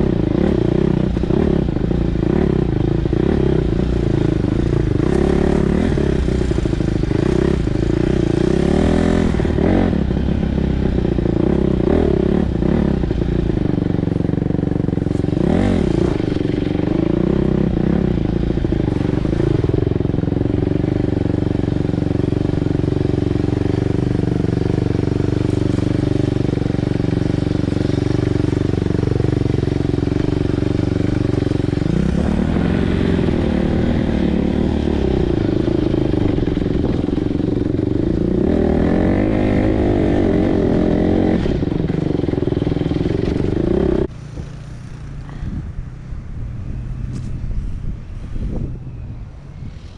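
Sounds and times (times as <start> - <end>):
dirt bike engine revving: 0.0 - 45.4.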